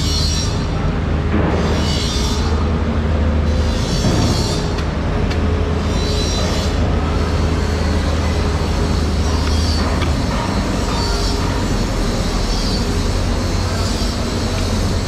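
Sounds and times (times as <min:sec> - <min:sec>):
background music with low drone: 0:00.0 - 0:15.0.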